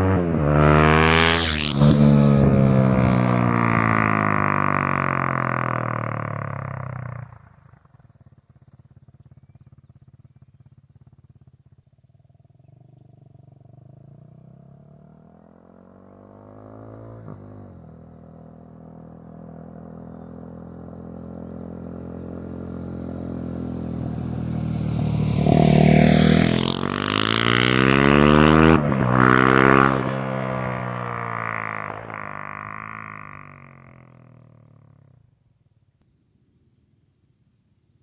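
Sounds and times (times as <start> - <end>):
motorcycle passing by: 0.0 - 10.5, 12.4 - 35.2.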